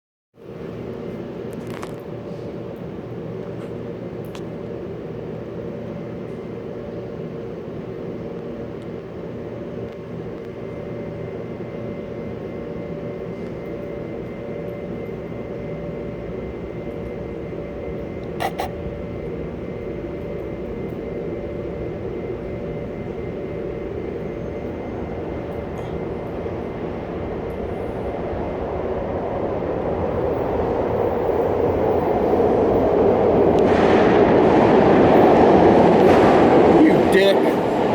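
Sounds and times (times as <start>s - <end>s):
machine rumble with low hum: 0.4s - 37.9s.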